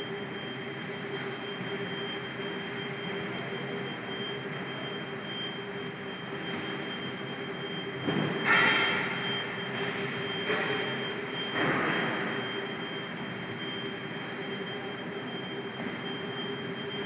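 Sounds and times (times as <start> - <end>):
factory machinery hum: 0.0 - 17.0.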